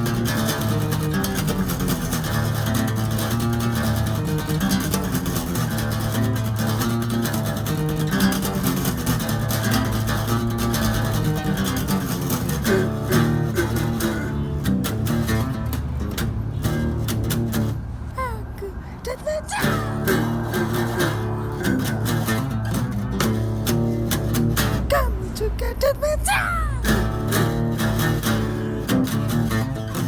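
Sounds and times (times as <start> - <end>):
acoustic guitar strumming chords: 0.0 - 17.8, 19.6 - 25.3, 26.8 - 30.0.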